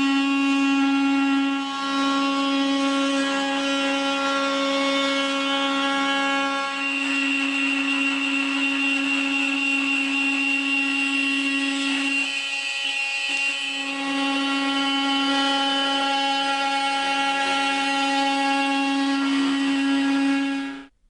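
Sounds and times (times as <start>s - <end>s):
oscillating multi-tool buzzing whine: 0.0s - 20.9s.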